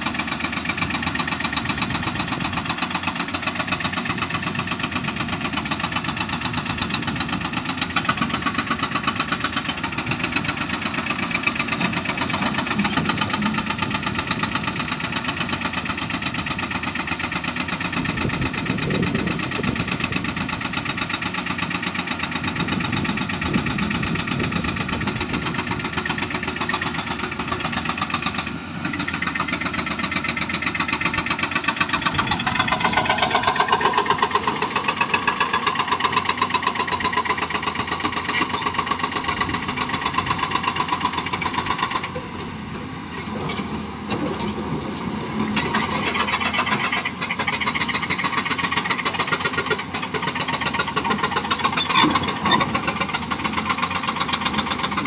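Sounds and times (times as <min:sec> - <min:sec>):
excavator diesel engines: 0:00.0 - 0:55.0.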